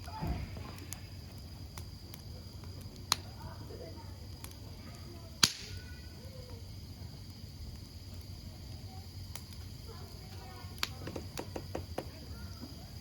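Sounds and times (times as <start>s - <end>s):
burning wood popping: 0.0s - 13.0s
campfire burning: 0.0s - 13.0s.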